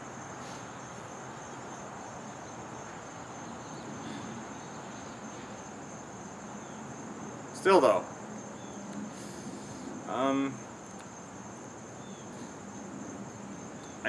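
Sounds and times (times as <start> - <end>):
crickets trilling: 0.0 - 14.0
outdoor background hiss: 0.0 - 14.0.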